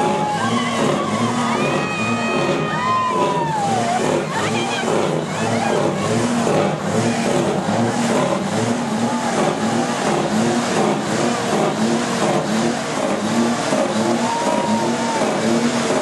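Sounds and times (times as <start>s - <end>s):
trucks rolling slowly past: 0.0s - 16.0s.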